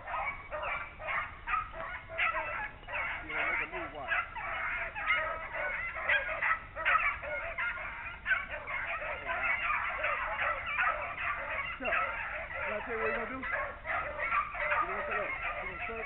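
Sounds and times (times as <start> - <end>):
pack of hounds baying: 0.0 - 16.0.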